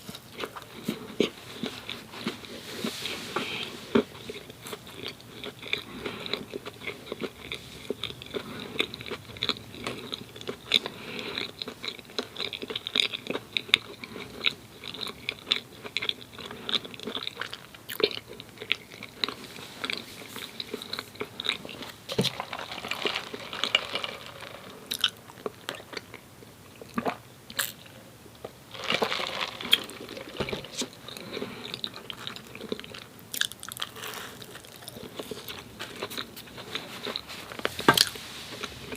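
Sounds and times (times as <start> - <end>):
close chewing sounds: 0.0 - 28.0, 28.7 - 38.9.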